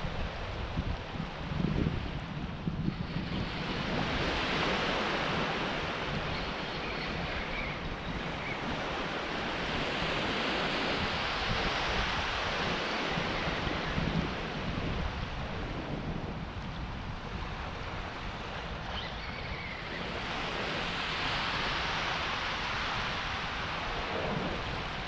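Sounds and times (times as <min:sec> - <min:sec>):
small waves breaking on shore: 0:00.0 - 0:25.0
wind rumbling on microphone: 0:00.0 - 0:25.0.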